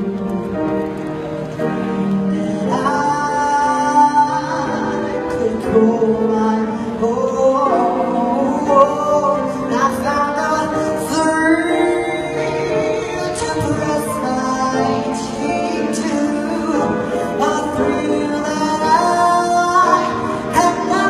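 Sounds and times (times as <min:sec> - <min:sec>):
piano accompaniment: 0:00.0 - 0:21.0
person singing long notes: 0:02.1 - 0:21.0.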